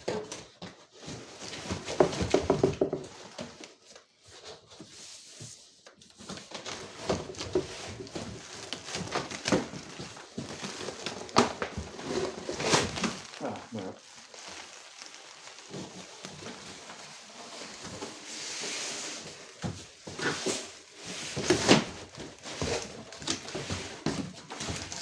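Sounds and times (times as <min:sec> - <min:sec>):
plastic rustling and scraping: 0:00.0 - 0:25.0.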